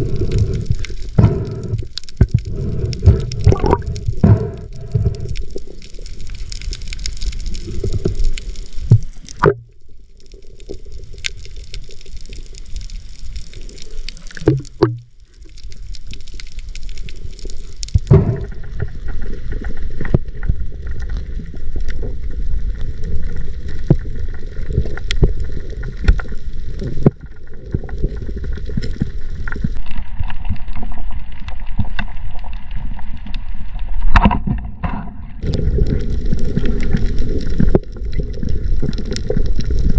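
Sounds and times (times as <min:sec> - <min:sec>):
water rushing and gurgling: 0:00.0 - 0:39.9.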